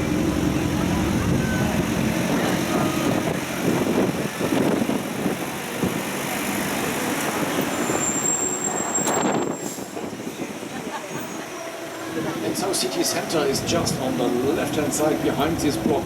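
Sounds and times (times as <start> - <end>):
road train engine: 0.0 - 16.0
surrounding traffic: 0.0 - 16.0.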